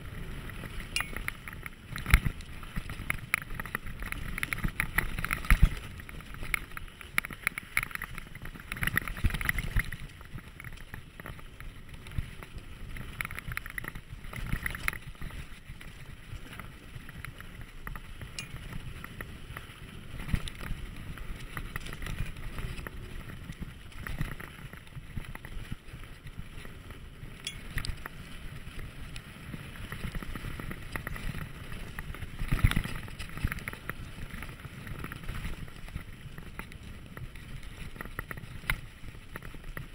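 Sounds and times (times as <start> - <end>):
bike knocking and rattling: 0.0 - 39.9
bike tyre rumble on dirt: 0.0 - 39.9.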